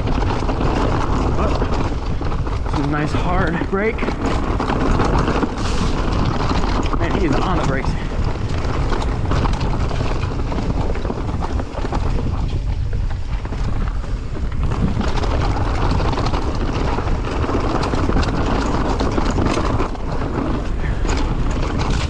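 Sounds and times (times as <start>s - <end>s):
bike clicks and rattles: 0.0s - 22.0s
low rumble of bike: 0.0s - 22.0s
wind buffeting microphone: 0.0s - 22.0s.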